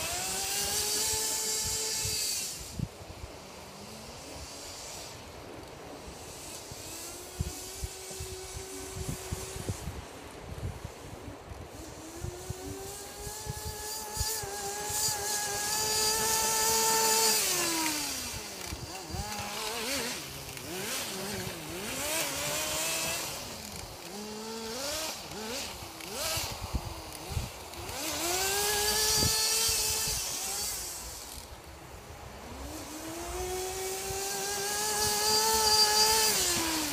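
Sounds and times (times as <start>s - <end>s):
small two-stroke engine revving: 0.0s - 36.9s.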